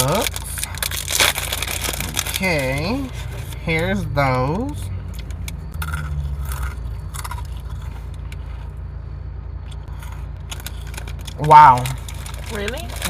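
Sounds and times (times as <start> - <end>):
crunching and chewing pretzels: 0.0 - 13.0
steady low hum: 0.0 - 13.0.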